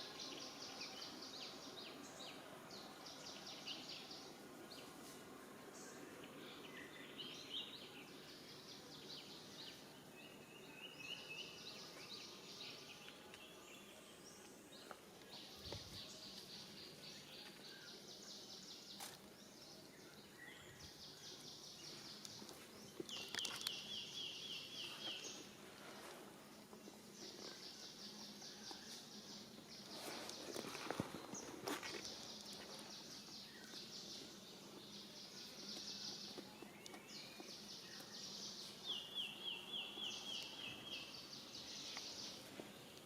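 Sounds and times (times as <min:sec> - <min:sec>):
faint low hiss: 0:00.0 - 0:43.0.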